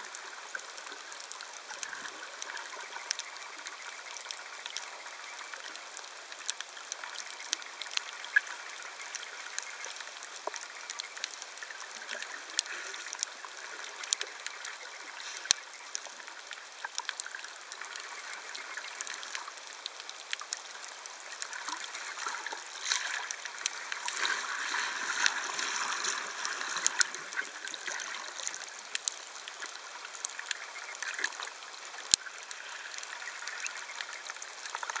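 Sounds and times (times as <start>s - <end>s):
sharp underwater clicks: 0.9s - 35.0s.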